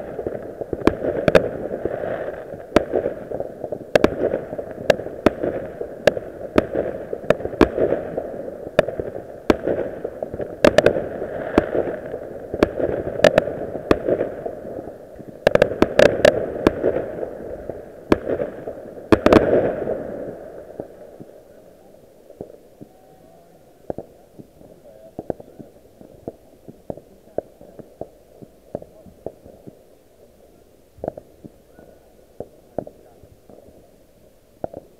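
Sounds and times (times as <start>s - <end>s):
fireworks banging and popping: 0.0s - 34.9s
fireworks crackling: 0.0s - 34.9s.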